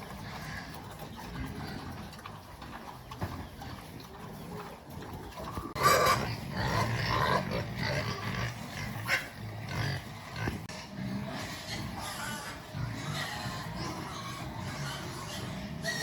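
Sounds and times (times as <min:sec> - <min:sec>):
pigs calling: 0:00.0 - 0:16.0.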